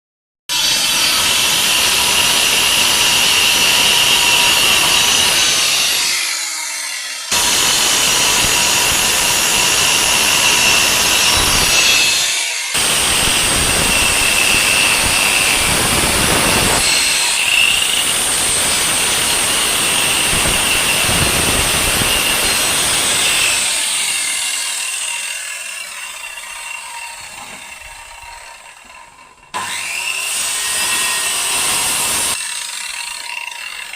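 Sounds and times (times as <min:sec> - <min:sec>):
power saw cutting wood: 0:00.5 - 0:33.9.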